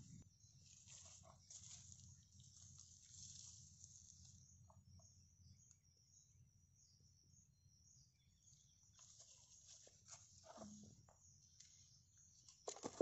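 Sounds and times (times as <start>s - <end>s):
faint high-pitched chirping: 0.0s - 13.0s.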